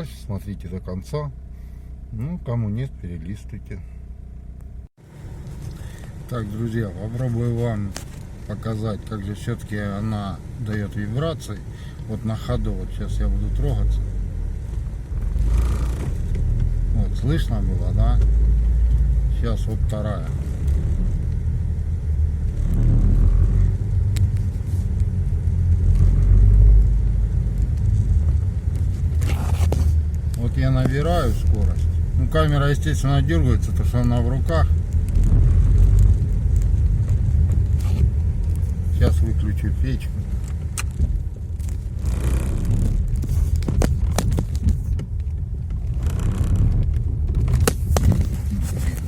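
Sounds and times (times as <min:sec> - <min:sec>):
car cabin hum and rumble: 0:00.0 - 0:49.0.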